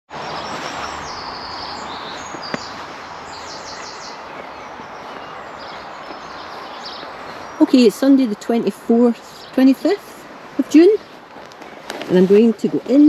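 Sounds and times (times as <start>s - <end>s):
small birds chirping and trilling: 0.1s - 13.0s
steady outdoor hiss: 0.1s - 13.0s.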